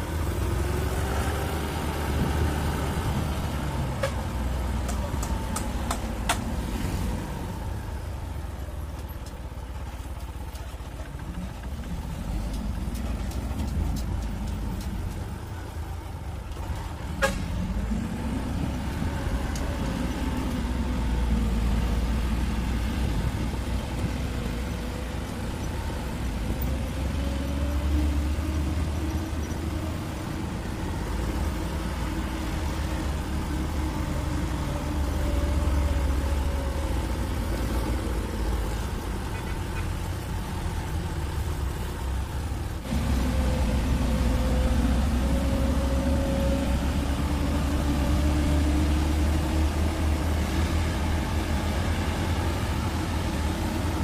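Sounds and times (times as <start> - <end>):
diesel truck engine climbing: 0.0 - 54.0.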